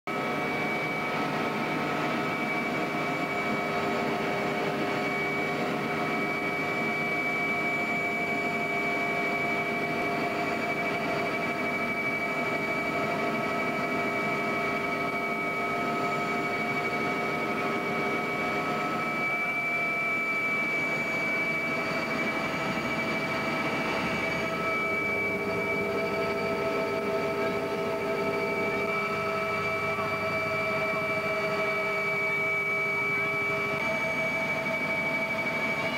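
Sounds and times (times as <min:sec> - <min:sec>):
helicopter flying: 0:00.1 - 0:35.9.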